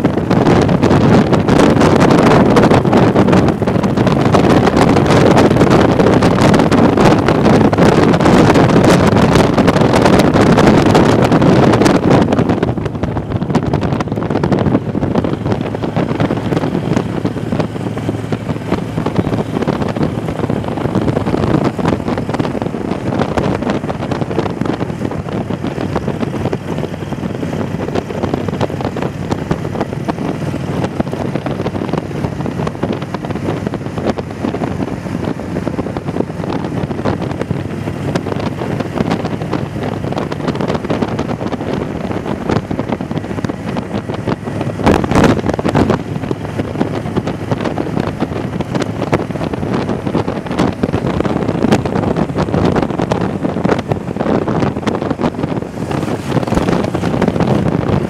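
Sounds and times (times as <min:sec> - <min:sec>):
motorcycle engine hum: 0:00.0 - 0:58.0
wind buffeting microphone: 0:00.0 - 0:58.0.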